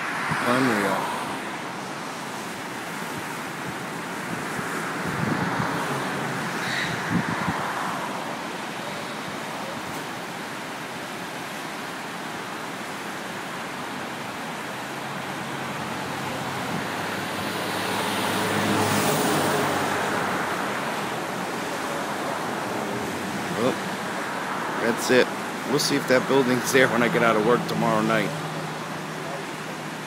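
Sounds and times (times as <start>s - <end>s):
vehicle passing: 0.0s - 10.2s, 14.8s - 30.0s
river water rushing: 0.0s - 30.0s.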